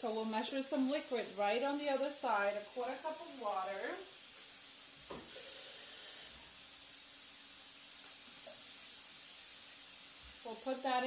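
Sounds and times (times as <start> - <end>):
sizzling grill pan: 0.0 - 11.0.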